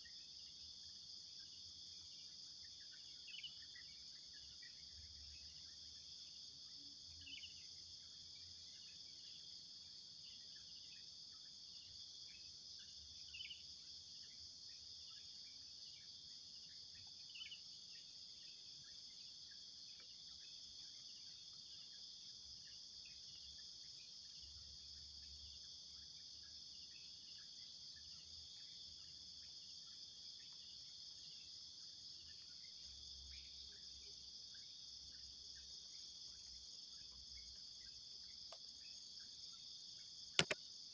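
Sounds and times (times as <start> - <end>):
high-pitched insect chorus: 0.0 - 40.9
insect chirps: 0.0 - 40.9.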